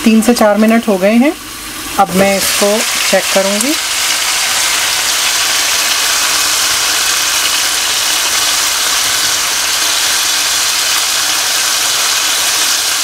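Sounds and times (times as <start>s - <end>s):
chicken sizzling in hot oil: 0.1s - 13.0s.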